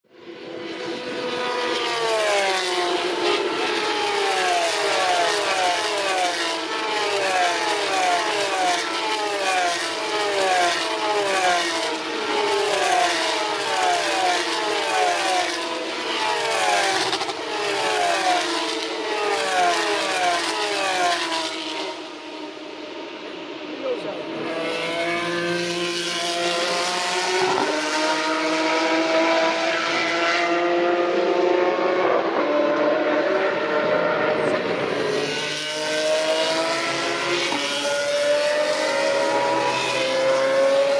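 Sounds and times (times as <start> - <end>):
race car engines passing: 0.2 - 40.9.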